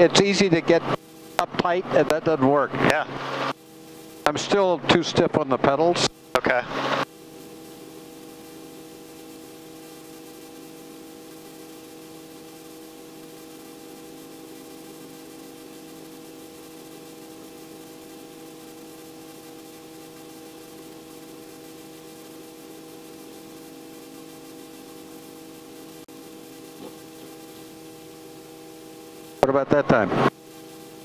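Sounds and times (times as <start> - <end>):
helicopter engine and rotors drone: 0.0 - 31.0.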